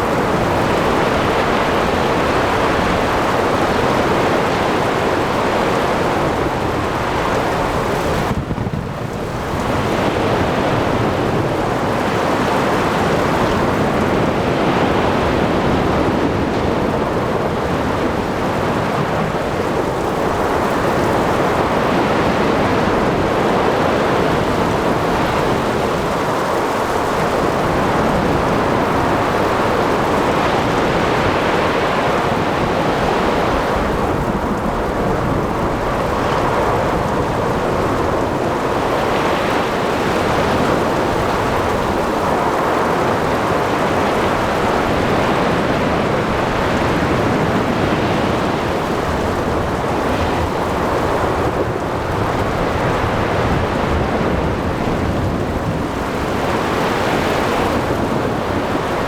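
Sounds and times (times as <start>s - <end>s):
ocean waves: 0.0s - 8.3s, 9.2s - 59.0s
heavy rain: 0.0s - 59.0s
wind: 0.0s - 59.0s.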